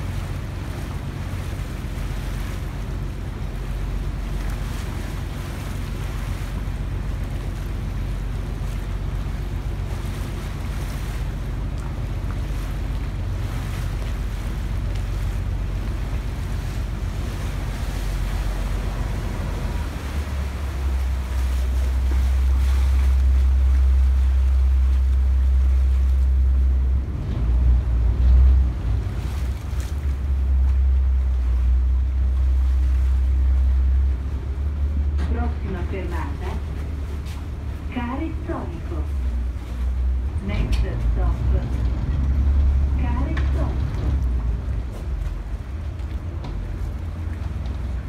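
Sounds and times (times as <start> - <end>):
boat engine rumble: 0.0 - 48.0
water rushing past hull: 0.0 - 48.0.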